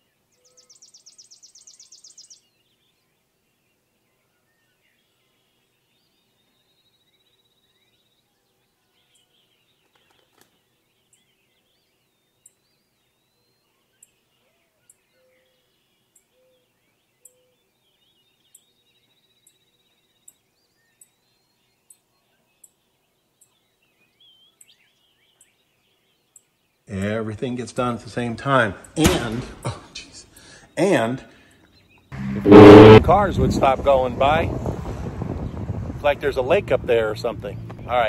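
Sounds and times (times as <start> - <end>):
faint birdsong: 0.0 - 34.4, 35.2 - 38.0.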